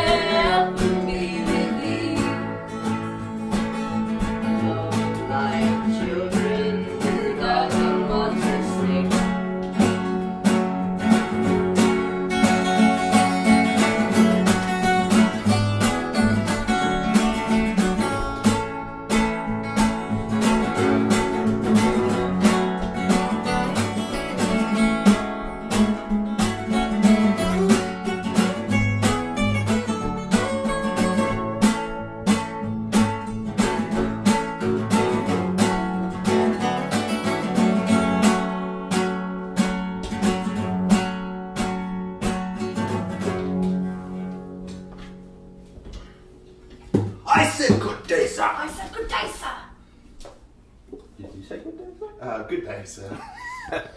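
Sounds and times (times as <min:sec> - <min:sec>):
acoustic guitar strumming and picking: 0:00.0 - 0:50.9.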